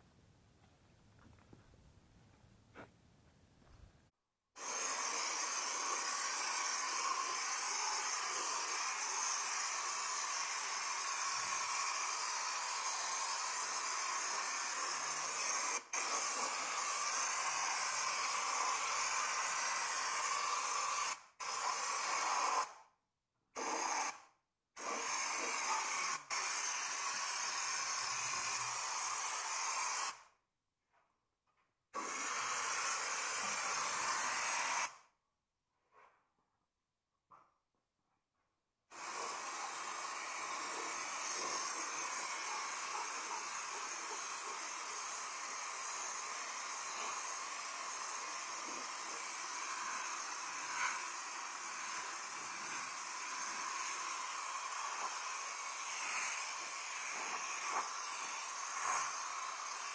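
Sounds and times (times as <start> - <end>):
spray gun hissing: 4.6 - 22.8, 23.6 - 24.2, 24.8 - 30.3, 32.0 - 35.0, 38.9 - 59.9.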